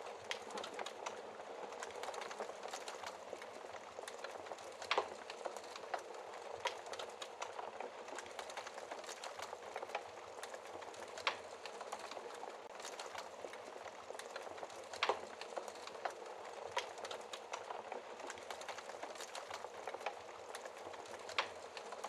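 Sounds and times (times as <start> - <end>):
burning wood popping: 0.0 - 22.0
wood fire crackling: 0.0 - 22.0.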